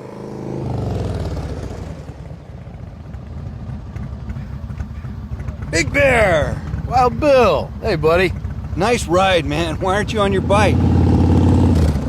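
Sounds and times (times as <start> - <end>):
motorcycle engine passing: 0.0 - 12.0.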